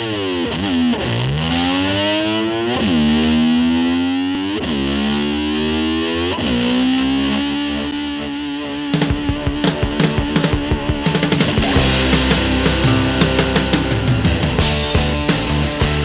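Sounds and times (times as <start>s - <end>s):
distorted electric slide guitar: 0.0s - 16.0s.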